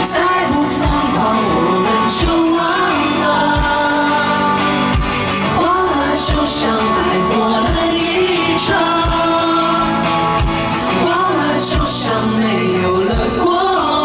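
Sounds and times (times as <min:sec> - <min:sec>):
rock band playing: 0:00.0 - 0:14.0
woman singing into a microphone: 0:00.0 - 0:14.0.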